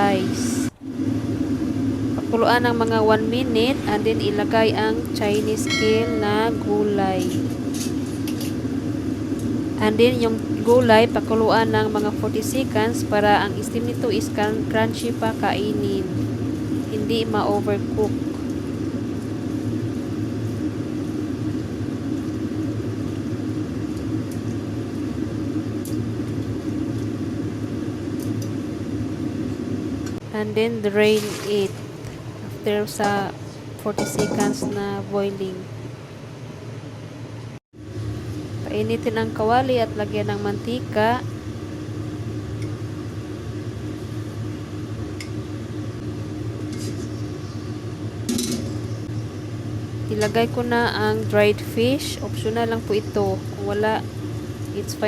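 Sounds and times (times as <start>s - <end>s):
kitchen equipment humming: 0.0s - 36.7s, 37.9s - 55.0s
stove rumbling whir: 0.0s - 55.0s.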